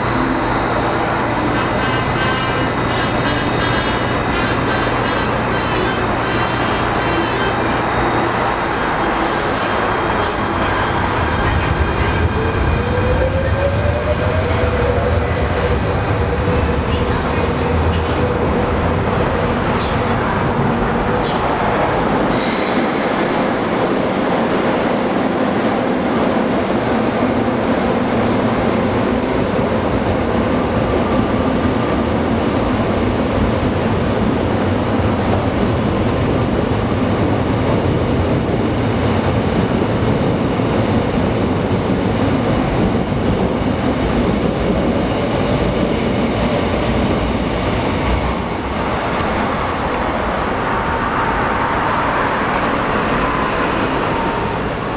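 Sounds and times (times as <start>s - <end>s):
subway train rumble: 0.0s - 54.9s.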